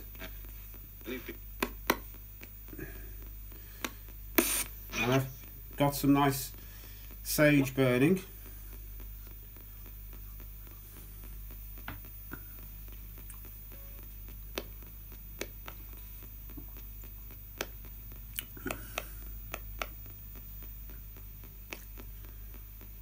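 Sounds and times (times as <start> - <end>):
faint radio hum and static: 0.0 - 23.0.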